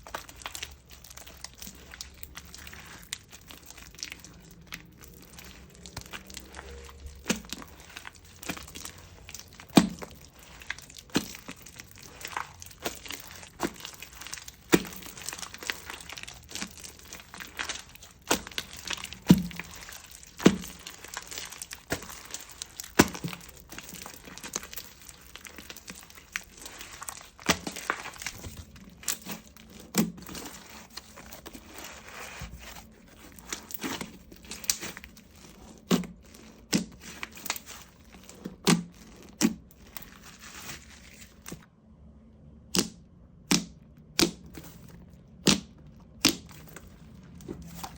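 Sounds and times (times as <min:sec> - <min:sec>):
slime crackling rustle: 0:00.0 - 0:41.7, 0:44.2 - 0:47.9.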